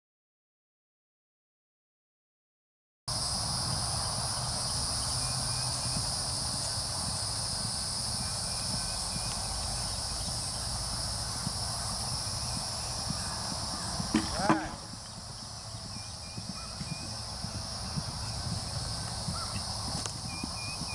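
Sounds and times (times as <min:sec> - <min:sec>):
insects buzzing: 0:03.1 - 0:20.9.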